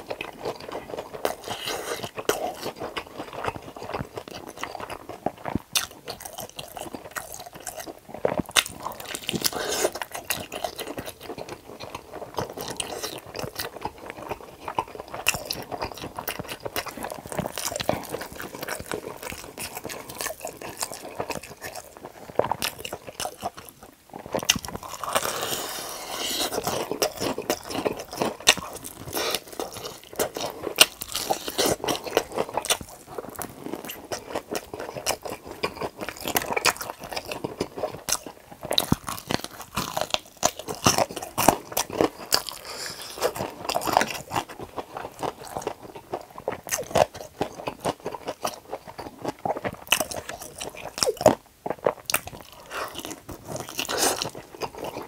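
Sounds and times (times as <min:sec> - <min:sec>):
crunching fried chicken: 0:00.0 - 0:55.0
wet chewing: 0:00.0 - 0:55.0.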